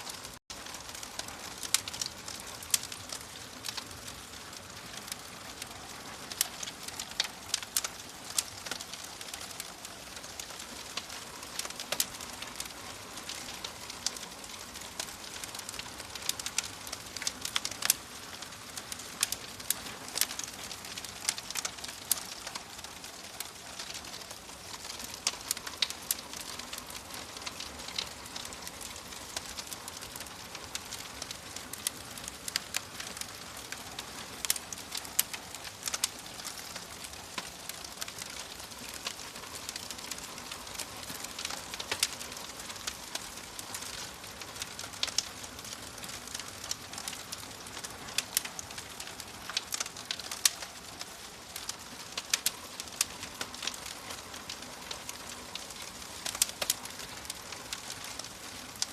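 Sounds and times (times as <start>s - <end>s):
steady fire hiss: 0.0s - 58.9s
wood fire crackling and popping: 0.0s - 58.9s.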